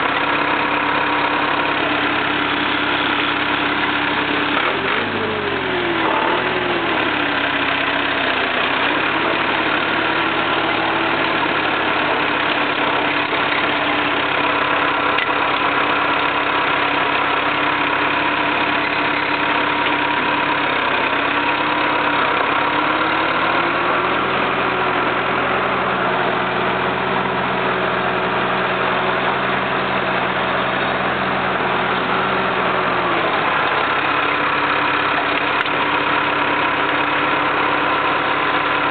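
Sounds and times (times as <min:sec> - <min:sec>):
diesel mower engine running: 0:00.0 - 0:38.9.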